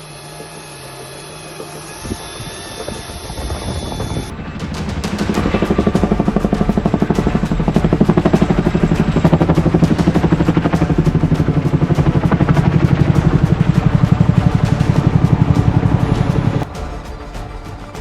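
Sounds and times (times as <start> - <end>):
toy helicopter rotor buzzing: 0.0 - 17.6.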